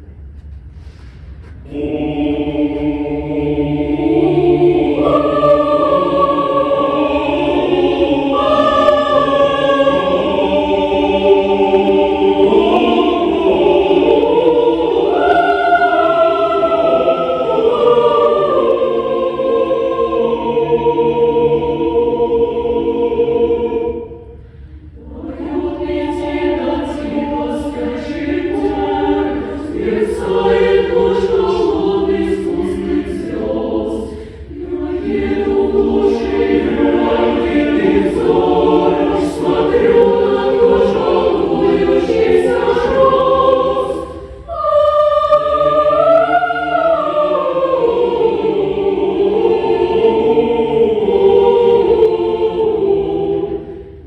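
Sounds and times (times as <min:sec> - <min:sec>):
choir singing a cappella: 0:00.8 - 0:54.0.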